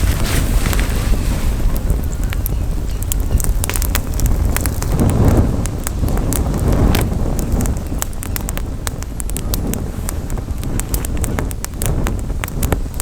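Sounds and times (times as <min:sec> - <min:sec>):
campfire crackling and popping: 0:00.0 - 0:13.0
wind rumble on microphone: 0:00.0 - 0:13.0.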